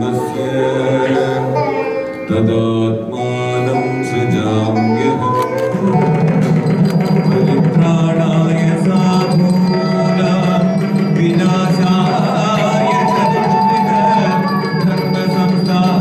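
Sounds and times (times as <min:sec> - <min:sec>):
chant-like singing: 0:00.0 - 0:06.5, 0:07.1 - 0:16.0.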